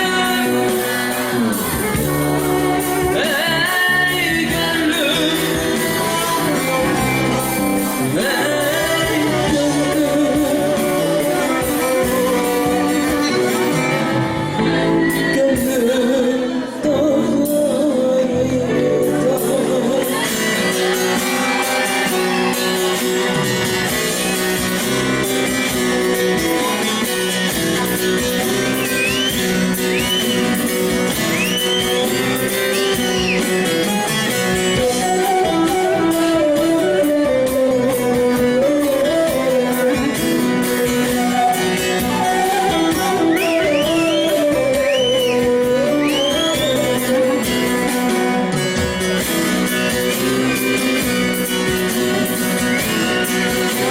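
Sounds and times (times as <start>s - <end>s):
live folk music with plucked strings: 0.0s - 53.9s.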